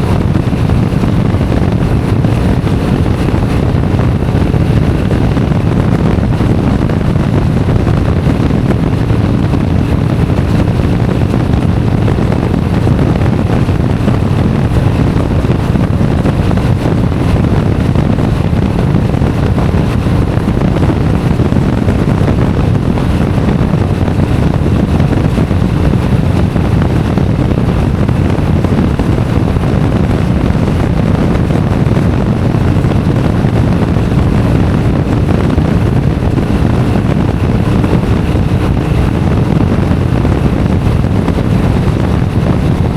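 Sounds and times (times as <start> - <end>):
motorcycle engine cruising: 0.0 - 42.9
wind on microphone: 0.0 - 42.9.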